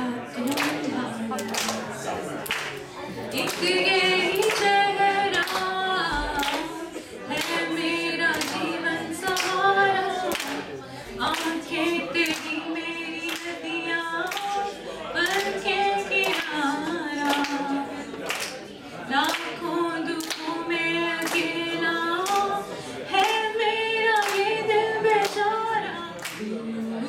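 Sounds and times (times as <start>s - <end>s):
woman singing into microphone: 0.0s - 2.2s, 3.3s - 18.2s, 19.0s - 27.0s
audience clapping along: 0.3s - 27.0s.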